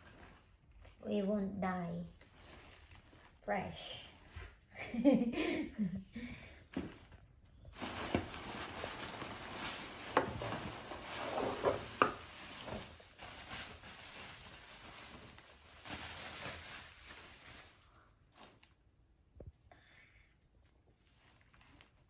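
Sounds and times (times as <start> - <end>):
bubble wrap rustling and crinkling: 0.0 - 4.7, 6.7 - 19.2, 20.7 - 22.0.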